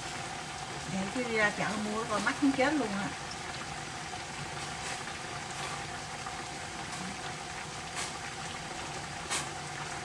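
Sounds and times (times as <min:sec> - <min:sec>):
pots boiling and simmering: 0:00.0 - 0:10.0.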